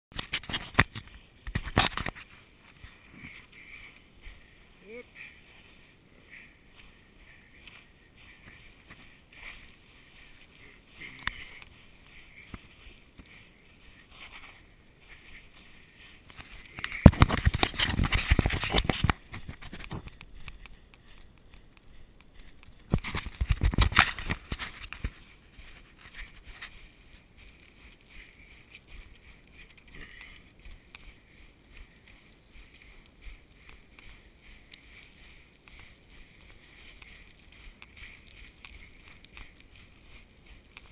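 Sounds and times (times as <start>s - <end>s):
footsteps crunching on scree: 0.1s - 40.9s.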